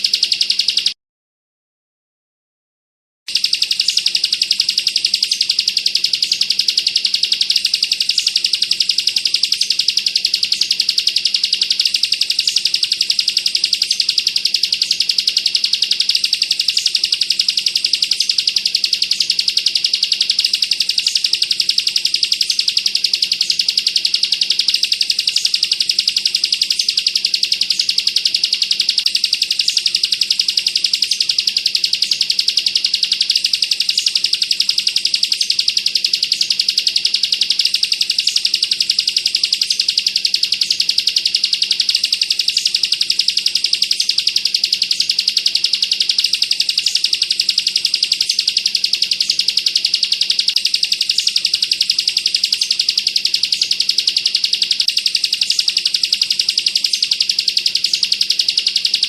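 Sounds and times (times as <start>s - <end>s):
bird singing fast rattling trill: 0.0s - 1.0s, 3.3s - 59.0s.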